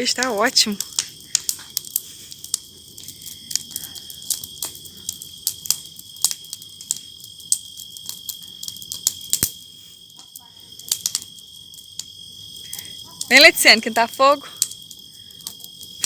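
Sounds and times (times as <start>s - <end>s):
bonfire crackling and popping: 0.0s - 16.0s
high-pitched insect trill: 0.0s - 16.0s.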